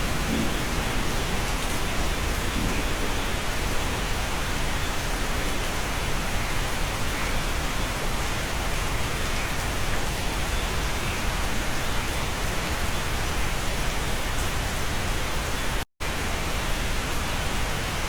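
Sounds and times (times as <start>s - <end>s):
steady rain pouring: 0.0s - 18.0s.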